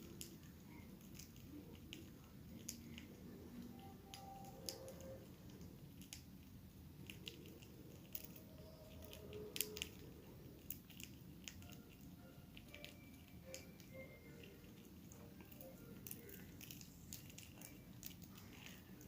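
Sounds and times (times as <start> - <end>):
small birds clicking: 0.0 - 19.0.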